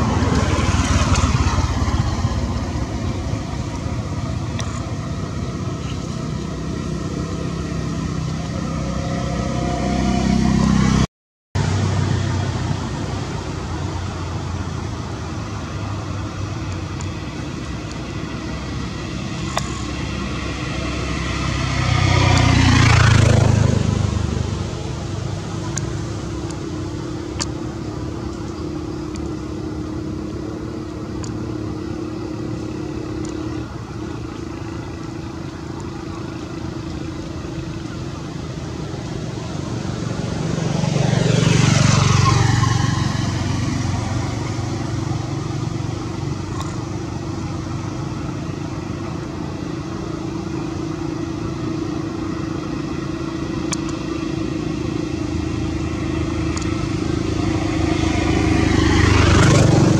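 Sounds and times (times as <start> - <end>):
steady traffic hum: 0.0 - 59.9
vehicle passing close by: 0.0 - 59.9.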